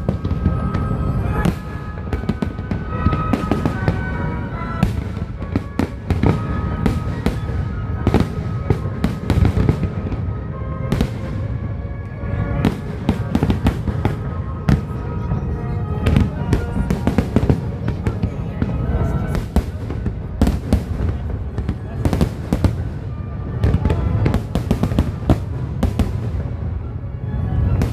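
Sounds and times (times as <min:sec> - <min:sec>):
fireworks booming and crackling: 0:00.0 - 0:27.9.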